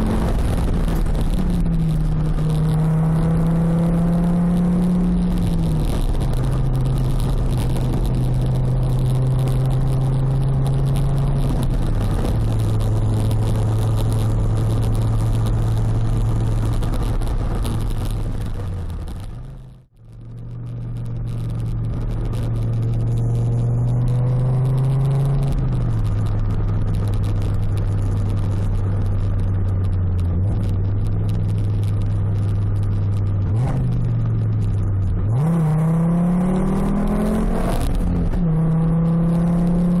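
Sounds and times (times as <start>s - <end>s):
car engine droning while driving: 0.0s - 40.0s.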